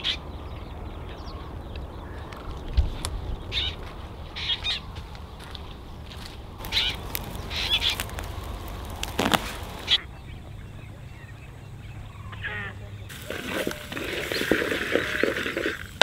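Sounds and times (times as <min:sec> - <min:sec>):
birds calling: 0:00.0 - 0:16.0
low steady rumble: 0:00.2 - 0:13.1.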